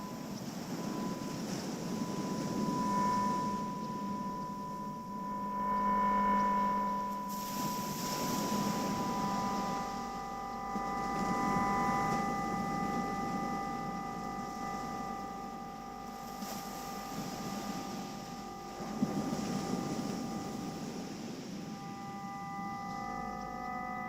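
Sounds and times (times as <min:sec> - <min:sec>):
synthesizer bell-like drone tones: 0:00.0 - 0:24.0.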